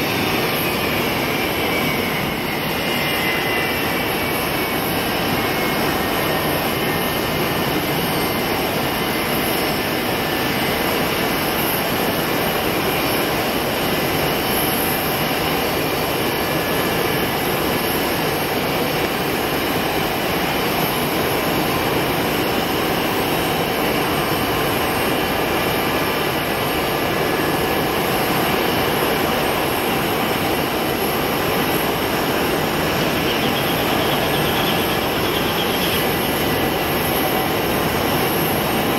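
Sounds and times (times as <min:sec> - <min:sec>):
jet aircraft engine noise: 0:00.0 - 0:38.9.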